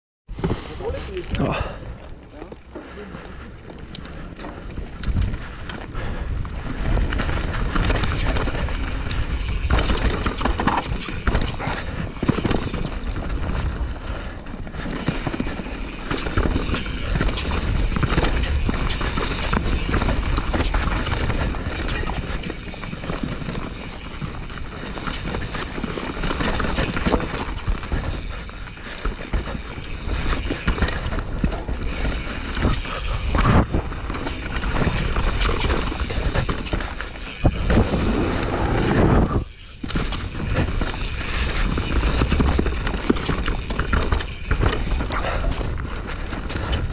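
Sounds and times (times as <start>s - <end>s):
bike tyres rolling and skidding on dirt: 0.3s - 46.9s
bike rattling and knocking: 0.4s - 46.9s
wind buffeting microphone: 3.4s - 46.9s.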